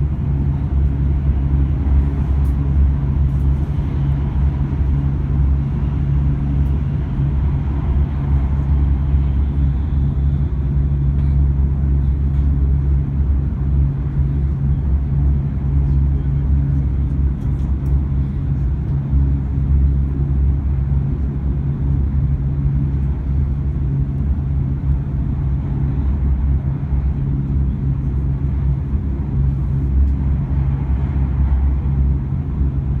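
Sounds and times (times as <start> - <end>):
train low drone: 0.0 - 33.0.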